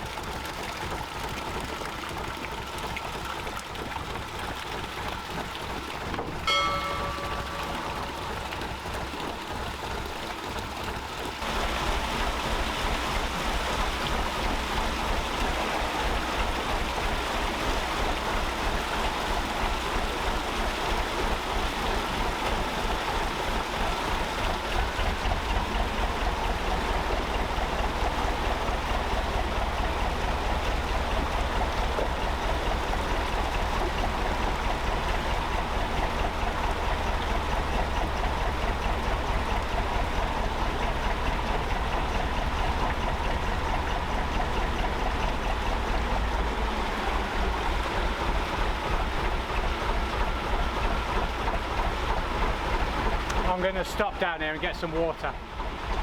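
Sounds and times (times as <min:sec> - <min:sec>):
diesel engine running: 0:00.0 - 0:56.0
rush like flowing water: 0:00.0 - 0:56.0.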